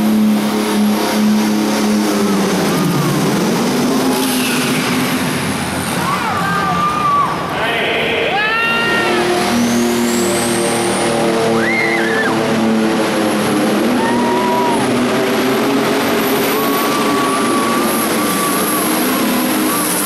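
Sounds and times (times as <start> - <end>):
high turbo whine: 0.0 - 6.2, 6.8 - 20.0
diesel tractor engine at full throttle: 0.0 - 6.4, 8.9 - 20.0.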